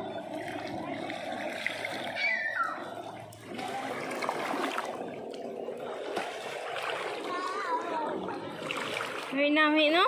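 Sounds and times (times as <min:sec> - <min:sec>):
water lapping over pebbles: 0:00.0 - 0:10.0.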